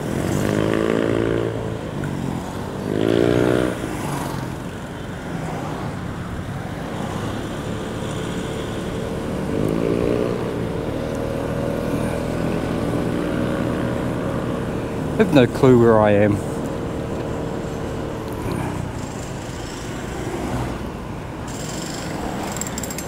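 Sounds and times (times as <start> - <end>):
motorcycle engine accelerating: 0.0 - 2.1, 2.7 - 4.6, 7.1 - 23.0.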